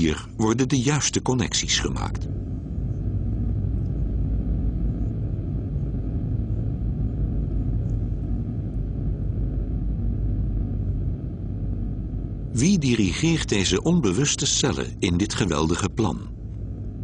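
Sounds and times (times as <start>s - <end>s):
deep rumbling drone: 0.0s - 17.0s.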